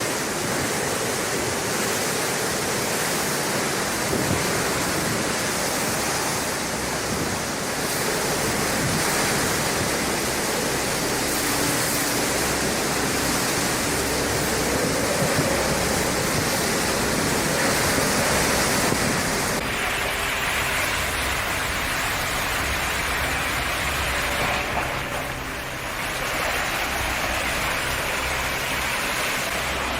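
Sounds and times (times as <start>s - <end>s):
heavy water rushing: 0.0s - 29.9s.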